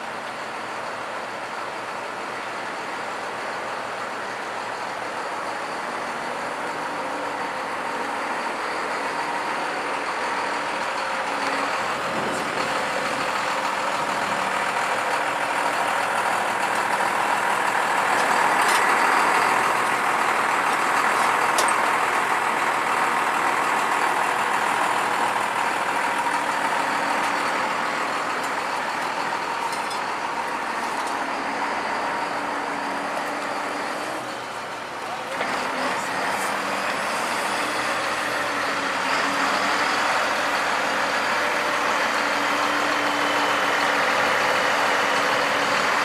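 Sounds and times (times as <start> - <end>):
vehicle engine humming: 0.0 - 46.0.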